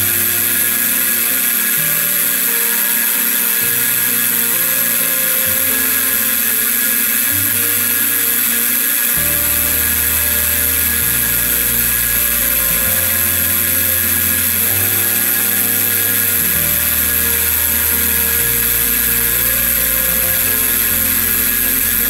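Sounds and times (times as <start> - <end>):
background music with bass line: 0.0 - 22.0
milling machine hiss and whine: 0.0 - 22.0.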